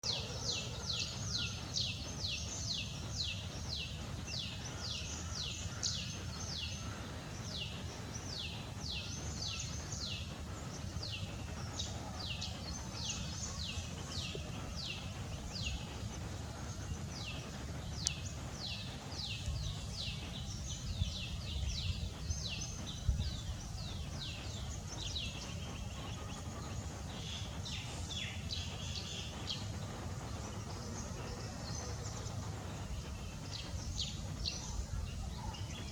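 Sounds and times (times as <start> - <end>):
high downward-sweeping bird chirps: 0.0 - 35.9
steady low rumble: 1.3 - 35.9.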